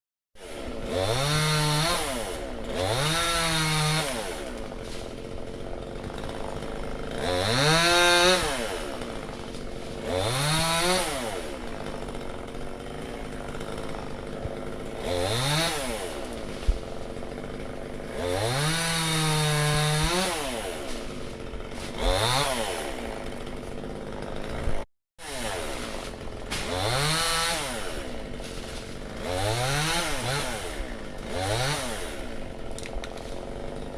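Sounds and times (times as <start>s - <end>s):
chainsaw revving: 0.4s - 33.9s.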